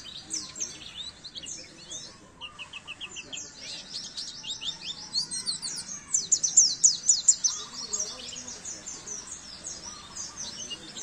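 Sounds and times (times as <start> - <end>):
bird twittering song: 0.0 - 11.0.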